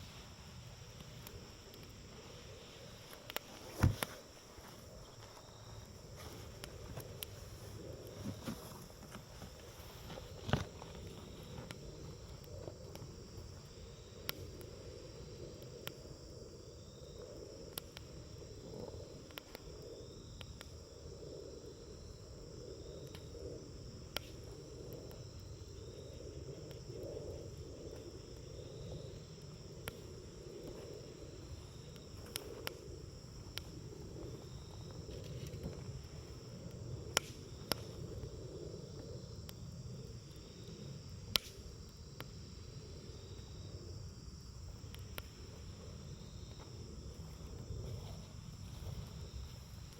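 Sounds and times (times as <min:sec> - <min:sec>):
campfire crackling: 0:00.0 - 0:49.9
insects chirping: 0:00.0 - 0:49.9.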